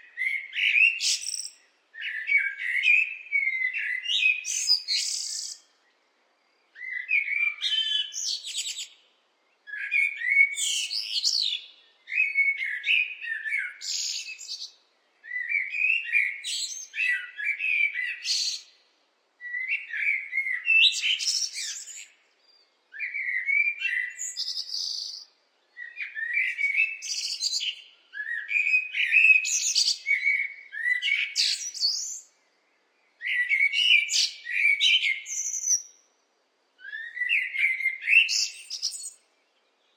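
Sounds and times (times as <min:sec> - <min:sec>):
blackbird singing: 0:00.0 - 0:36.1, 0:36.8 - 0:39.9.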